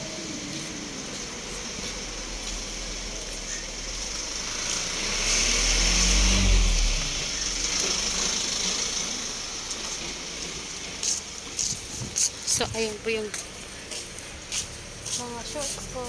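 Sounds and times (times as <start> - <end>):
motor vehicle passing: 0.0 - 16.0
traffic noise: 0.0 - 16.0.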